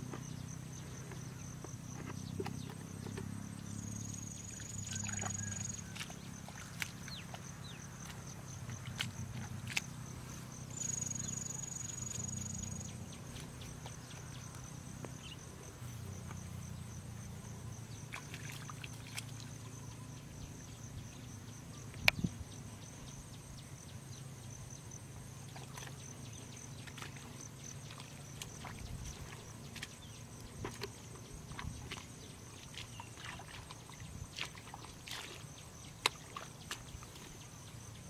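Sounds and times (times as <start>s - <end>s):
insect drone: 0.0s - 38.0s
small water splashes: 0.2s - 16.2s, 17.9s - 20.2s, 25.3s - 38.0s.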